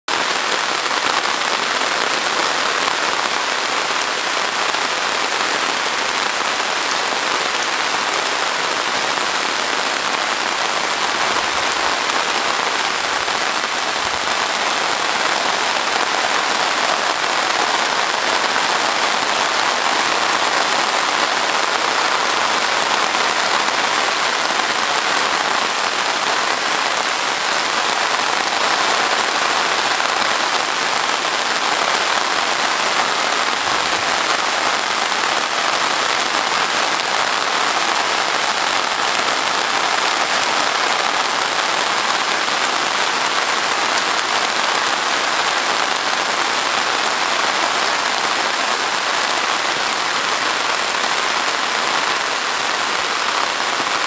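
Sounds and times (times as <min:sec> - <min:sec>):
heavy rain on leaves and road: 0:00.1 - 0:54.0.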